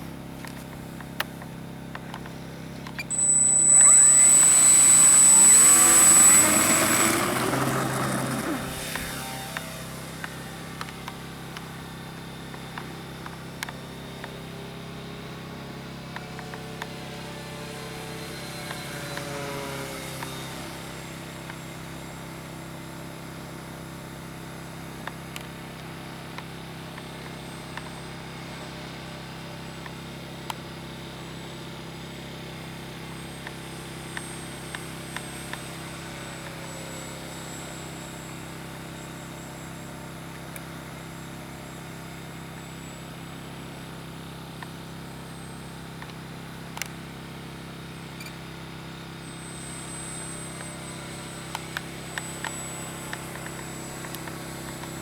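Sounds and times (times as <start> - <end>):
model airplane motor whine: 0.0 - 55.0.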